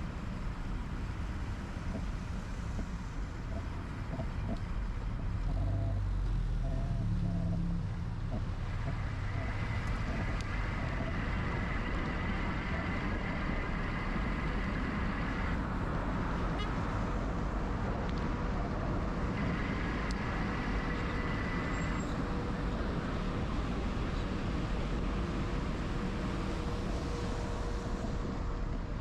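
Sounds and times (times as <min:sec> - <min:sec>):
passing traffic: 0:00.0 - 0:29.0
wind and road noise: 0:00.0 - 0:29.0.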